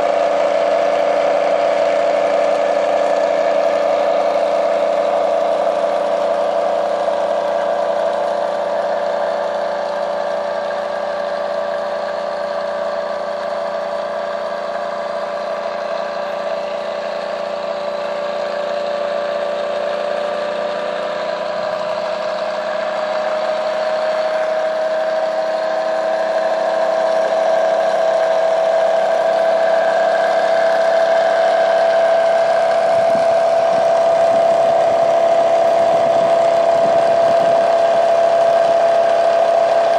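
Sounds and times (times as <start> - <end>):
pulse motor humming: 0.0 - 39.9.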